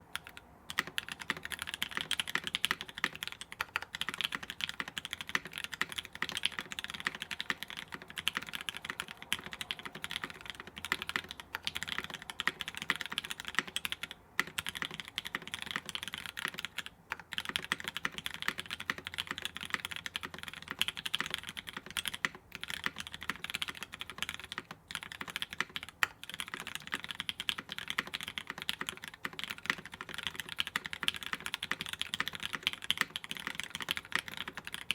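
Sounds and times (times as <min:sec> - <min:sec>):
mechanical keyboard typing: 0:00.1 - 0:34.9.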